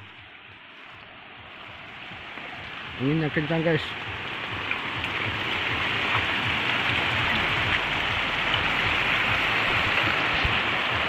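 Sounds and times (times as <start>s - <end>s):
gusting wind: 0.0s - 11.0s
heavy rain pouring: 0.0s - 11.0s.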